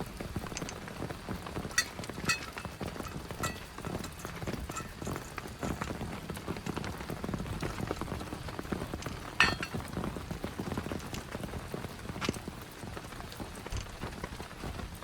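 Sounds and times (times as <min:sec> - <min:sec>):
rain drops pattering: 0:00.0 - 0:15.0.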